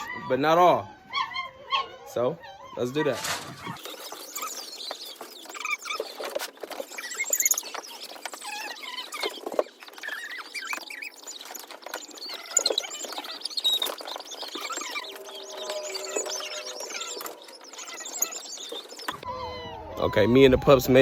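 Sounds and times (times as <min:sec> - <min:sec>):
puppies squeaking and whimpering: 0:00.0 - 0:21.0.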